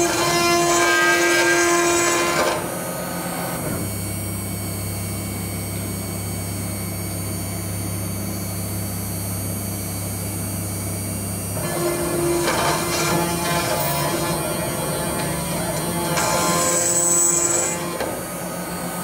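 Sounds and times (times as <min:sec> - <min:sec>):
router motor humming: 0:00.0 - 0:19.0.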